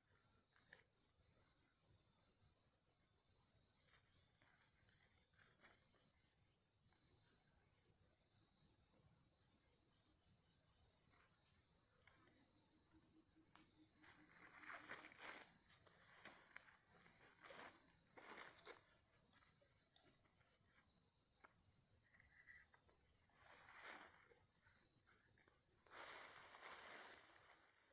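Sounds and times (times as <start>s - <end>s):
insects chirring: 0.0s - 27.9s.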